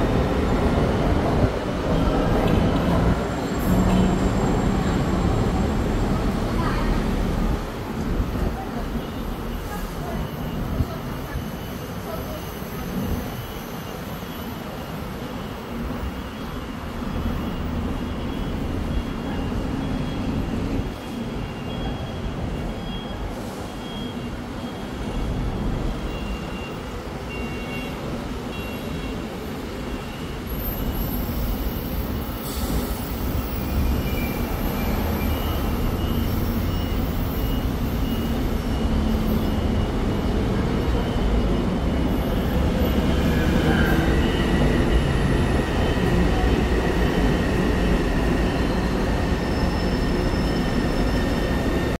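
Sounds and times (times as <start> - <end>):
electric train rumble braking: 0.0 - 27.3, 29.2 - 52.0.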